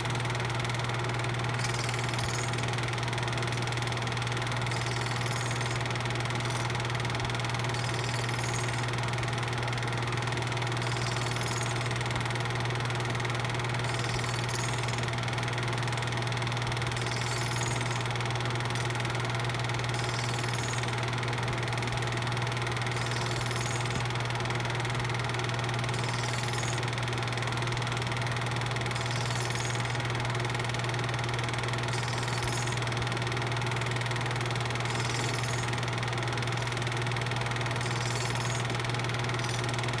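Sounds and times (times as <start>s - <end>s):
film projector motor drone: 0.0s - 40.0s.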